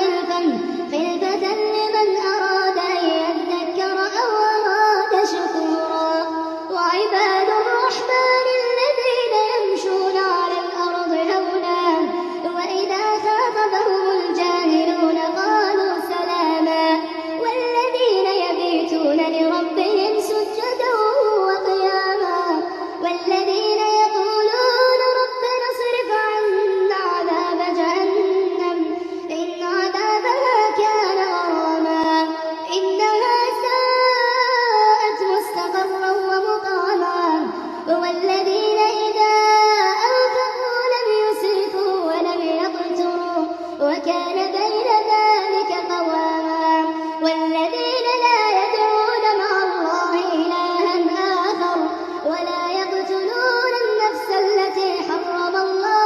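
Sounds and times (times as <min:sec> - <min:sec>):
person chanting recitation: 0:00.0 - 0:55.9.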